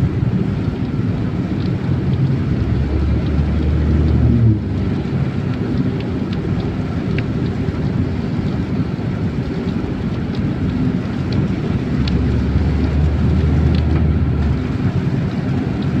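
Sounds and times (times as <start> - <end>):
car road and engine rumble: 0.0 - 16.0
rain ticking on car: 0.0 - 16.0.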